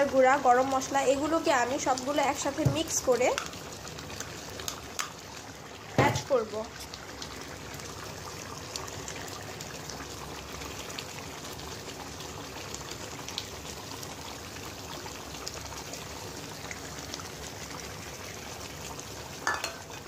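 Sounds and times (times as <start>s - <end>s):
gravy bubbling with pops: 1.8s - 20.0s.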